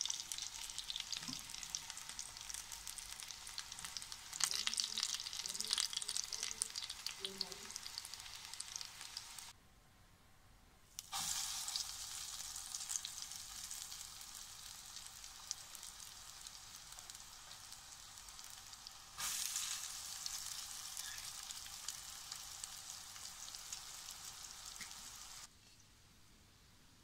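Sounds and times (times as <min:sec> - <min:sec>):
cutlets sizzling in oil: 0:00.0 - 0:09.5, 0:11.0 - 0:25.5.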